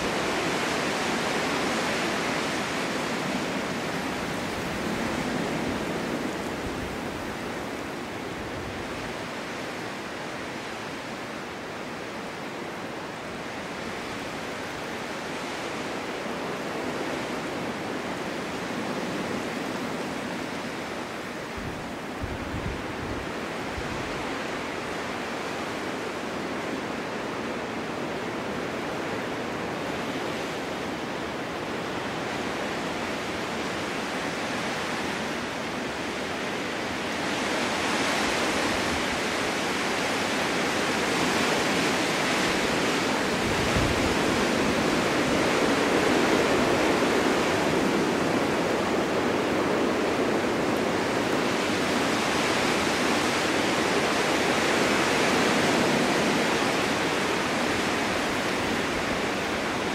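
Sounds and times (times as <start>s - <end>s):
wind rushing through forest: 0.0s - 59.9s.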